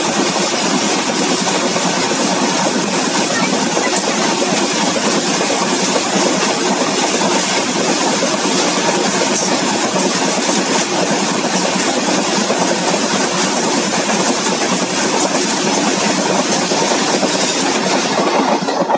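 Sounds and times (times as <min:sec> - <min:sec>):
freight train wheels clattering: 0:00.0 - 0:18.9.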